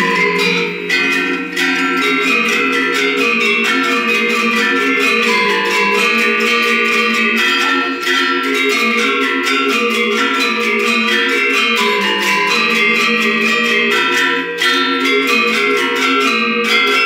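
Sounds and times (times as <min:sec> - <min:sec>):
metallophone ensemble playing: 0:00.0 - 0:17.0.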